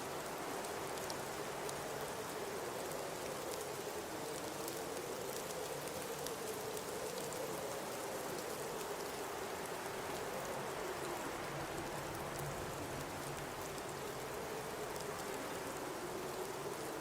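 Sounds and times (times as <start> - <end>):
faint ticks: 0.3 - 16.9.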